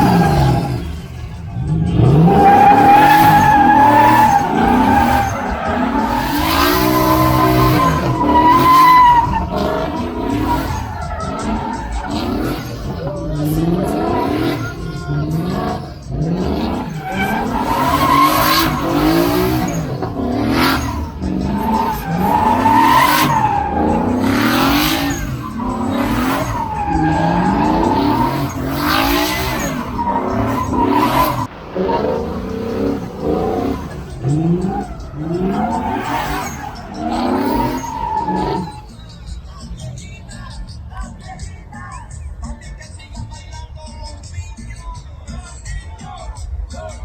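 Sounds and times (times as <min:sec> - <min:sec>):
tire squeal: 0:00.0 - 0:40.6
truck engines revving: 0:00.0 - 0:44.8.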